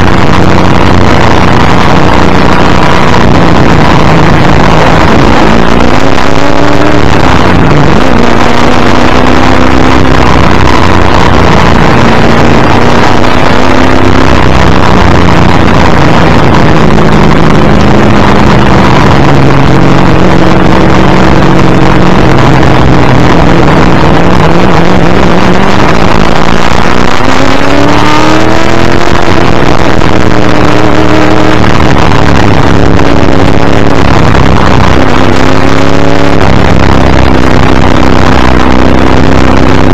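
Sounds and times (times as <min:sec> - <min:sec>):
heavy wind: 0:00.0 - 0:39.9
race car engine under load: 0:00.0 - 0:39.9
road roar: 0:00.0 - 0:39.9.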